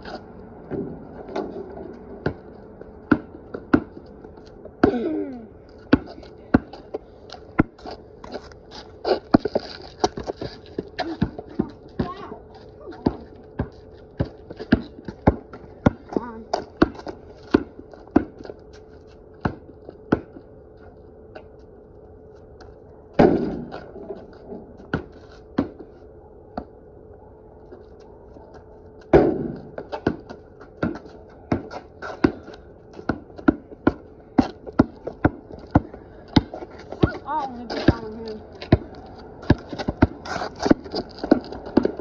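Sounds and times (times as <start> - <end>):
basketball bouncing on concrete: 0.0 - 5.2, 5.8 - 8.4, 9.0 - 18.6, 19.4 - 20.5, 23.2 - 25.8, 29.1 - 42.0.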